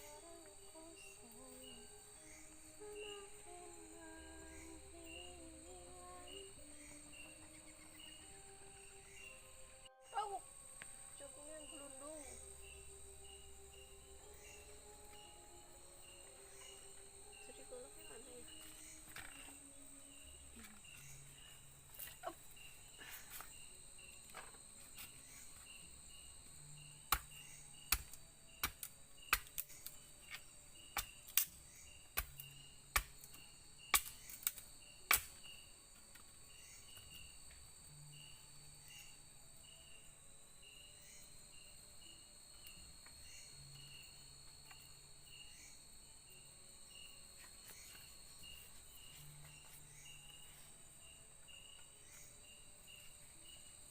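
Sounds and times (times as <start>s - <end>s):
insect chirping: 0.0s - 53.9s
insects droning: 0.0s - 53.9s.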